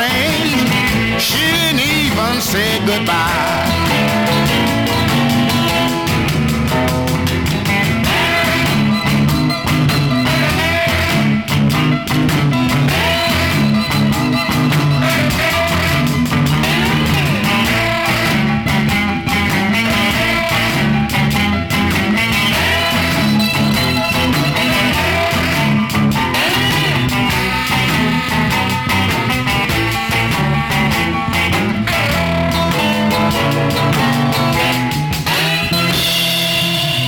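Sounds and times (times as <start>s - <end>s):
bent guitar notes: 0.0s - 37.0s
blues band instrumental: 0.0s - 37.0s.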